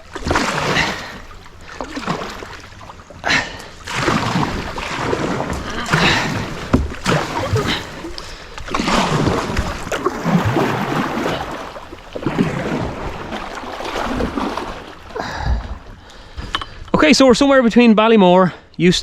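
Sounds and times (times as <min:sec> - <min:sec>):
paddle strokes splashing water: 0:00.0 - 0:16.5.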